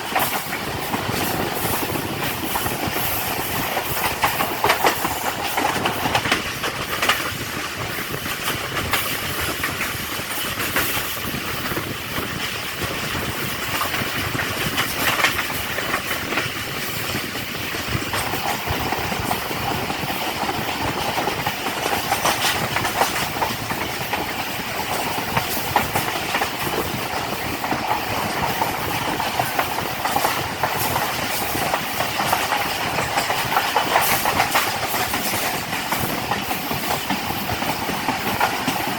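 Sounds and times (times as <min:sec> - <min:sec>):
train rumbling on rails: 0:00.0 - 0:38.9
wheels clacking over rail joints: 0:00.0 - 0:38.9.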